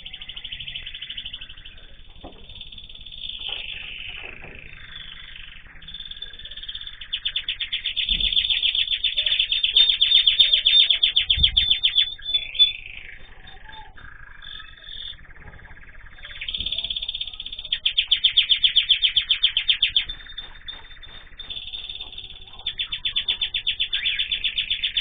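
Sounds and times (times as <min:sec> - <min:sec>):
fast bird trill: 0:00.0 - 0:25.0
songbirds chirping and singing: 0:00.0 - 0:25.0.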